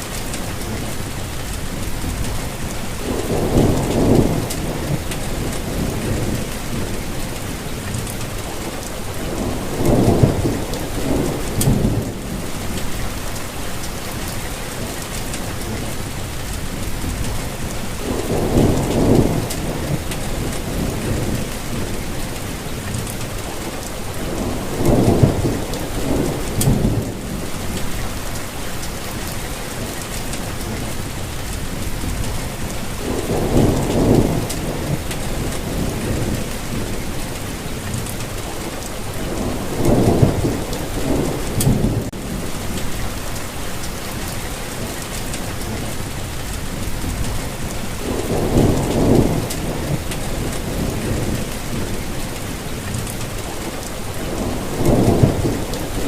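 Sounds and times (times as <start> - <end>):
steady rainfall: 0.0 - 56.0
thunder rumbling: 0.5 - 56.0.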